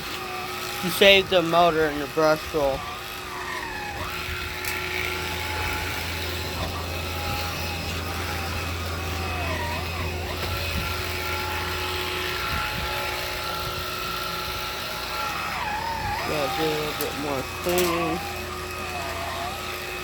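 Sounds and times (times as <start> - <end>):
stick vacuum running: 0.0 - 20.0.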